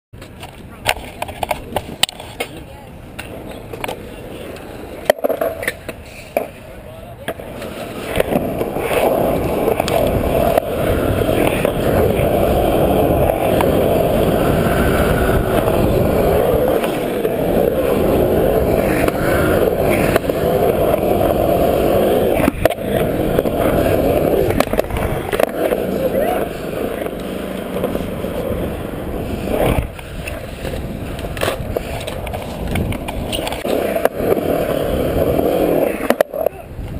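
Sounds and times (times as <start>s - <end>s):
skateboard wheels rolling on concrete: 0.1s - 36.9s.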